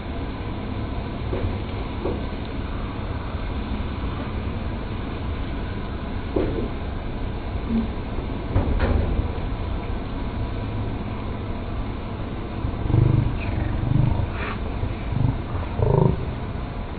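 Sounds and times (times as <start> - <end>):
low rumble: 0.0 - 16.9.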